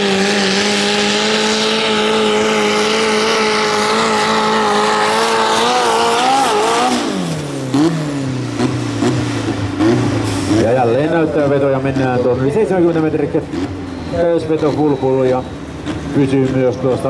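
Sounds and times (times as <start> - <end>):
diesel tractor engine revving hard: 0.0 - 17.0.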